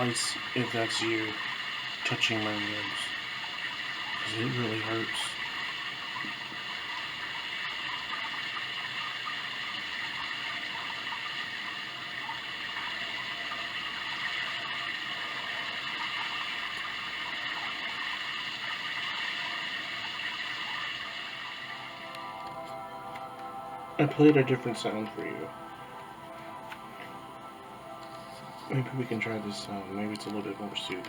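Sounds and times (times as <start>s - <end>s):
sound machine water-like hiss: 0.0s - 31.0s.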